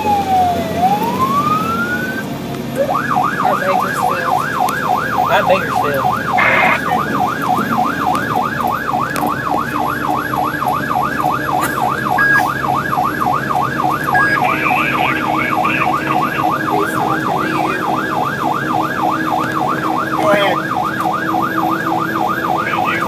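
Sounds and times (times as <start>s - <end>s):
fire truck siren yelping: 0.0s - 23.0s
truck engine running: 0.0s - 23.0s.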